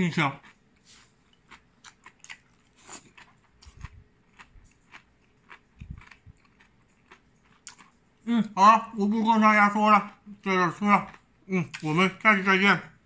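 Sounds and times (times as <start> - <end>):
person chewing with crisp crunches: 0.0 - 12.5.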